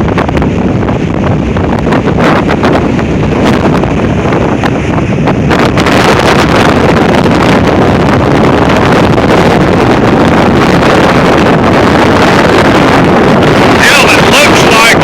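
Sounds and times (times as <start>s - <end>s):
wind blasting across microphone: 0.0s - 15.0s.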